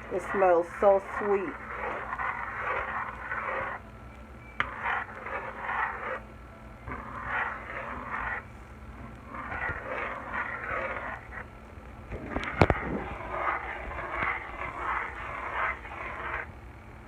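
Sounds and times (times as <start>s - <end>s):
utensil stirring sauce in a pan: 0.0s - 16.6s.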